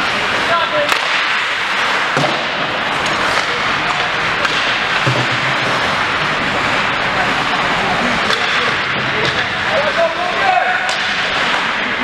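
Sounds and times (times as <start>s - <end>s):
murmur of many voices: 0.0s - 12.0s.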